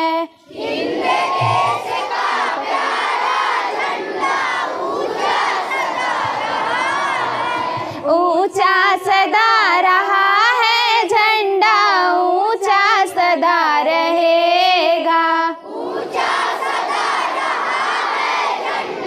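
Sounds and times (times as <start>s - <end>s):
child singing: 0.0s - 19.0s.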